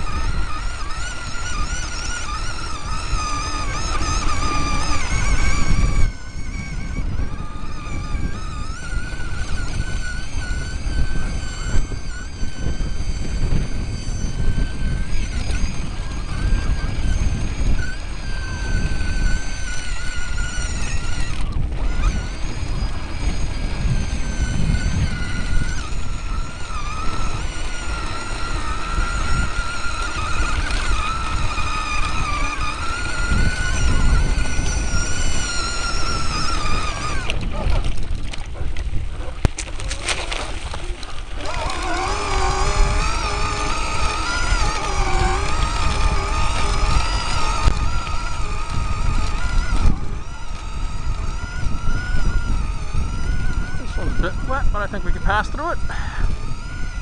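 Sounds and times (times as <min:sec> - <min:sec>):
electric motor whining: 0:00.0 - 0:57.0
low rumble from bumpy trail: 0:00.0 - 0:57.0
wind buffeting: 0:00.0 - 0:57.0.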